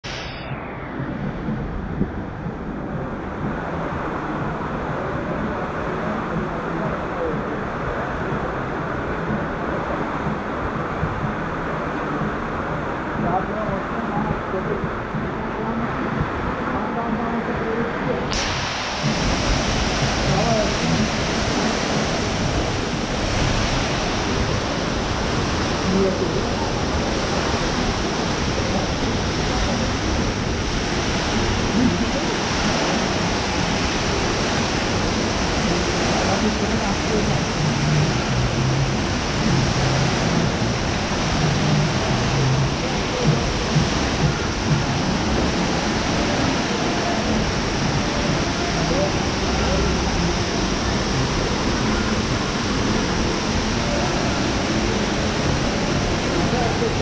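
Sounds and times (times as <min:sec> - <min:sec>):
indoor waterfall rushing: 0:00.0 - 0:57.0
fountain jets splashing: 0:03.4 - 0:57.0.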